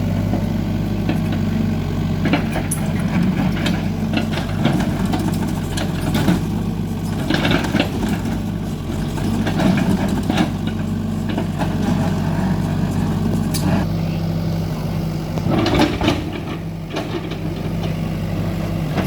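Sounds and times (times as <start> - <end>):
excavator diesel engine running: 0.0 - 19.0
knocks and rattles: 1.0 - 13.9, 15.4 - 18.0.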